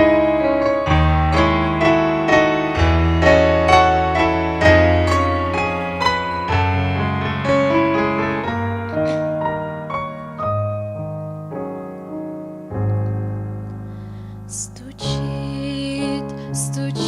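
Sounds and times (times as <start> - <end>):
deep bass piano note: 0.0 - 15.8
slow piano melody: 0.0 - 17.0.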